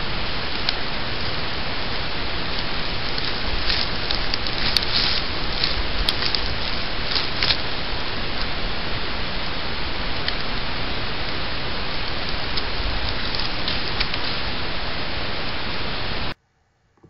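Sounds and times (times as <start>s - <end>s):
outdoor wind hiss: 0.0s - 17.0s.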